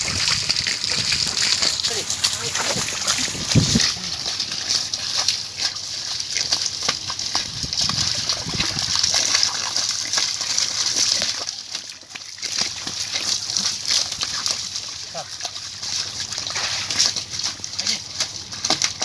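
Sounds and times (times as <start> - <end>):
hose water splashing on concrete: 0.0 - 19.0.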